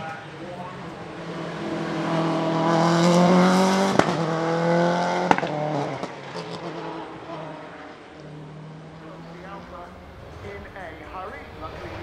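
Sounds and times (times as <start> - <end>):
rally car accelerating past: 0.8 - 12.0.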